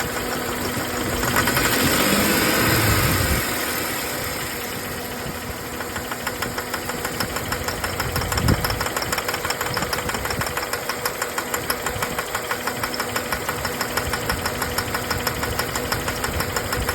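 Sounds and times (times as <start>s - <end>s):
engine idling with ticking knock: 0.0s - 16.9s.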